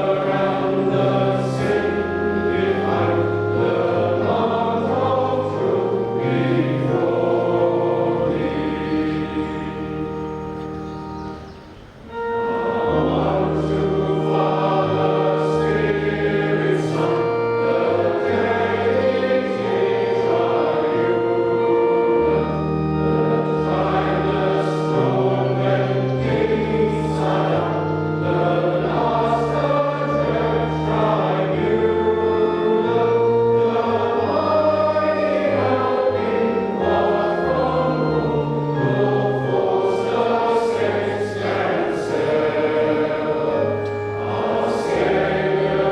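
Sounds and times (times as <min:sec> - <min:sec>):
choir and congregation singing hymn: 0:00.0 - 0:45.9
organ: 0:00.0 - 0:45.9.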